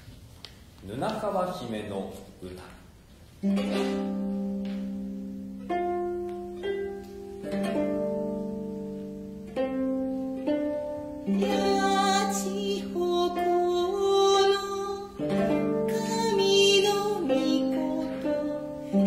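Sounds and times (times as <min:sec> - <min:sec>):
plucked lute and zither notes: 0:03.3 - 0:19.0
bowed string held notes: 0:03.4 - 0:19.0.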